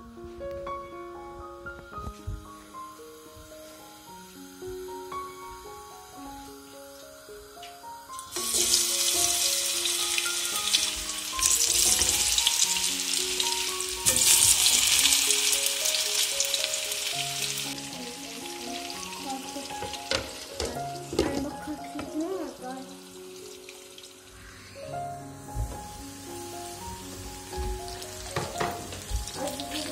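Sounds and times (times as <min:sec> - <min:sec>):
soft background music: 0:00.0 - 0:29.9
potatoes sizzling in hot oil: 0:03.2 - 0:29.9.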